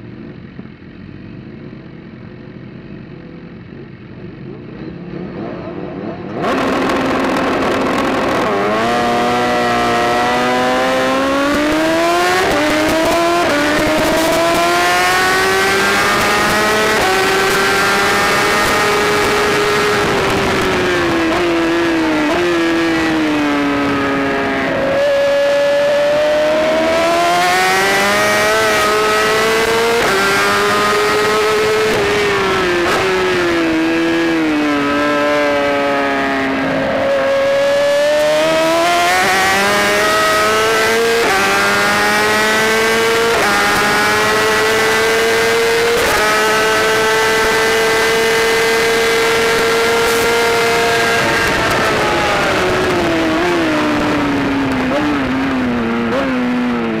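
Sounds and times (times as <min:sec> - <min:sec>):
motorbike engine revving: 0:03.9 - 0:57.0
rushing wind: 0:03.9 - 0:57.0.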